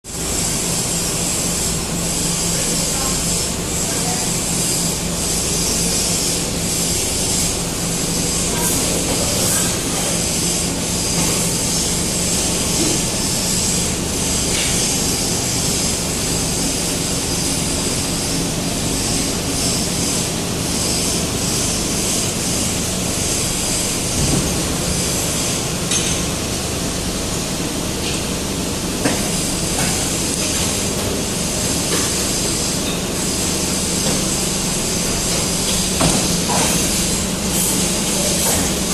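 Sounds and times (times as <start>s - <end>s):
injection moulding machine humming: 0.1s - 38.9s.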